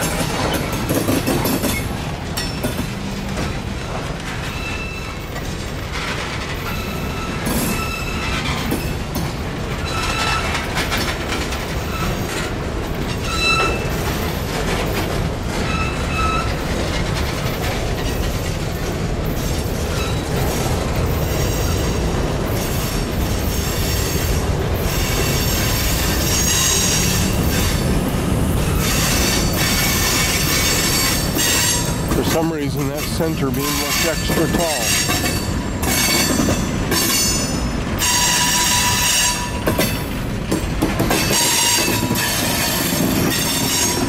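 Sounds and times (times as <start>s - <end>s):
freight cars rumbling on rails: 0.0s - 44.0s
wheels clacking over rail joints: 0.0s - 44.0s.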